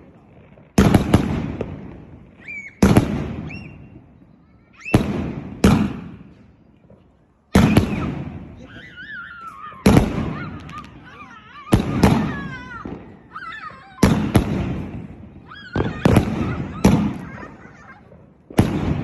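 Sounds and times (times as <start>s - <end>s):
fireworks banging: 0.0s - 19.0s.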